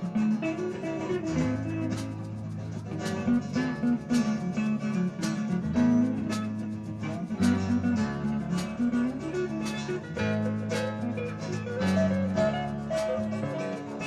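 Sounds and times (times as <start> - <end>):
guitar: 0.0 - 14.0.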